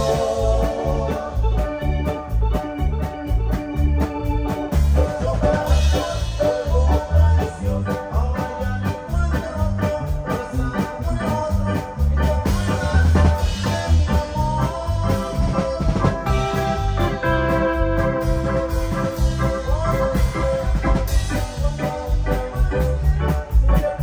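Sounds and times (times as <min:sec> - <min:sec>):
drums and bass beat: 0:00.0 - 0:24.0.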